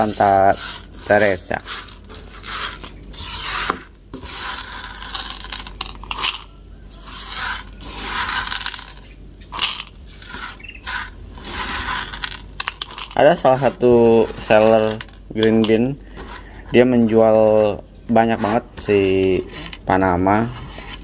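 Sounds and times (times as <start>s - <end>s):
coffee beans rattling in plastic bowl: 0.0s - 21.0s.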